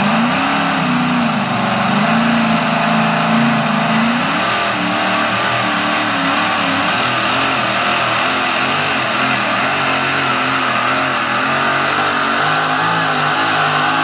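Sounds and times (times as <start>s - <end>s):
tractor engine revving hard: 0.0s - 14.0s.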